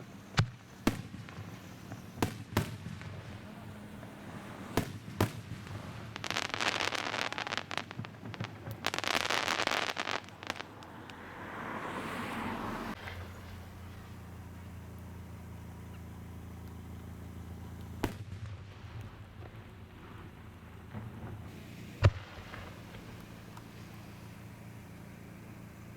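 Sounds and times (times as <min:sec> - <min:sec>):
firework shells bursting: 0:00.0 - 0:11.3, 0:13.0 - 0:20.3, 0:20.9 - 0:25.9
rapid firework crackling: 0:00.0 - 0:11.6, 0:12.9 - 0:25.9.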